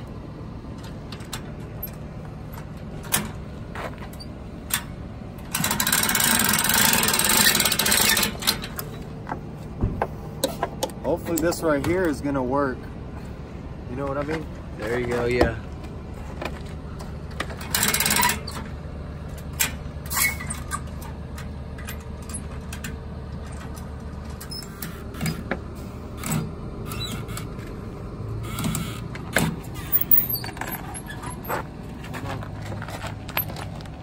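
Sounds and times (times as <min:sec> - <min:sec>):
low engine hum: 0:00.0 - 0:34.0.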